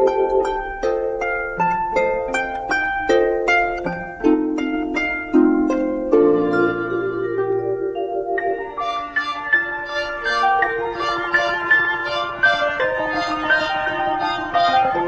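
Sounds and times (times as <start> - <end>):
plucked melody over held chords: 0.0 - 15.0.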